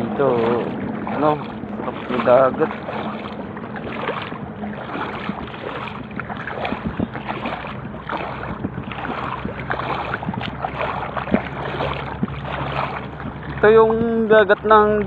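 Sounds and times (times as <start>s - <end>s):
seawater splashing: 0.0s - 15.0s
steady low hum: 0.0s - 15.0s.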